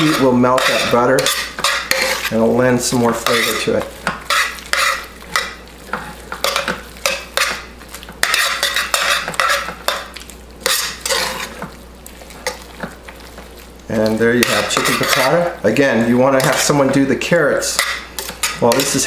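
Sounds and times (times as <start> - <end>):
tongs stirring and scraping pan: 0.0 - 19.0.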